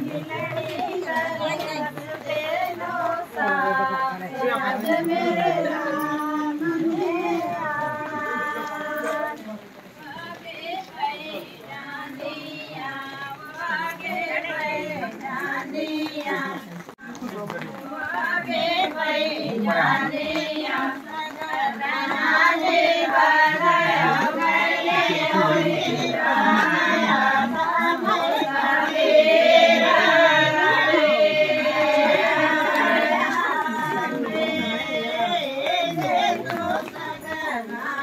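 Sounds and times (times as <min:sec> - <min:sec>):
women singing folk song in chorus: 0:00.0 - 0:38.0.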